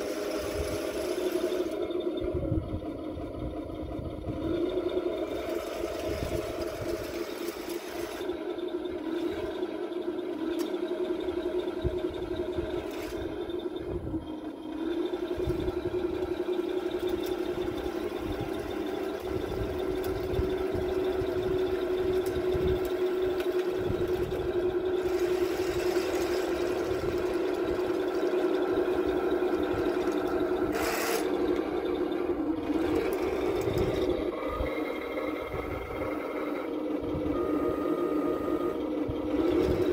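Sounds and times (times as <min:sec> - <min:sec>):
model tank mechanical drone: 0:00.0 - 0:39.9.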